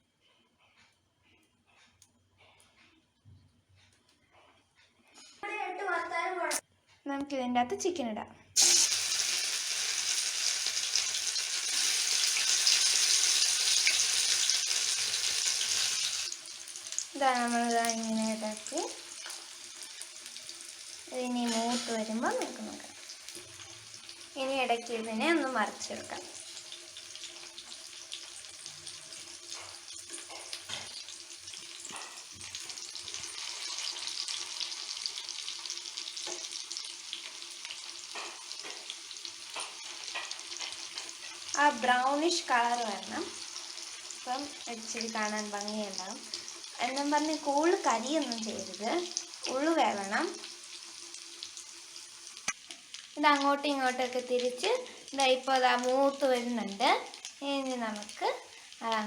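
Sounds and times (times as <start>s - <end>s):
chicken sizzling in hot oil: 8.6s - 59.0s.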